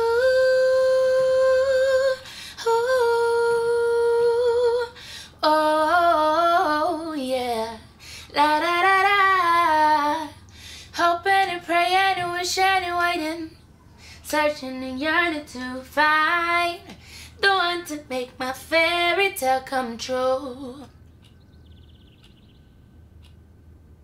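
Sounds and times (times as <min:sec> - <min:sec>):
woman singing a cappella: 0:00.0 - 0:21.0.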